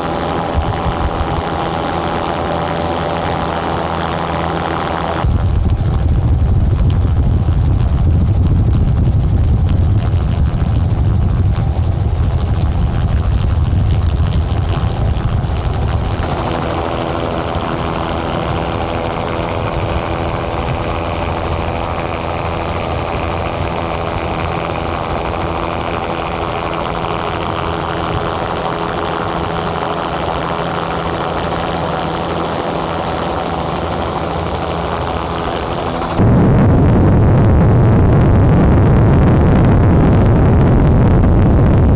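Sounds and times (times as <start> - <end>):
helicopter engine and rotor drone: 0.0 - 41.9.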